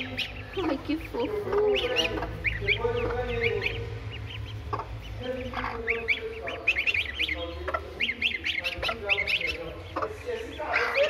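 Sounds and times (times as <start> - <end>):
ducklings and goslings peeping: 0.0 - 11.0
longer lower bird calls: 0.0 - 11.0.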